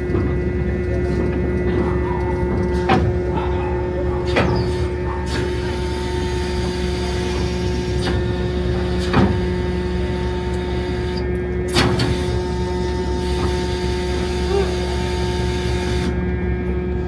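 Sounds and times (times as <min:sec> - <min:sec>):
ship engine drone: 0:00.0 - 0:17.0.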